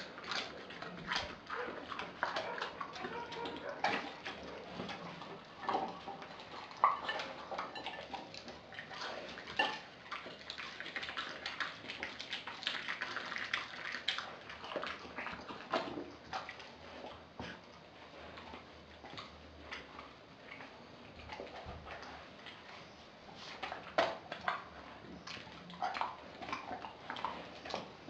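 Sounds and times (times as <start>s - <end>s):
dog chewing and lapping: 0.0s - 28.0s.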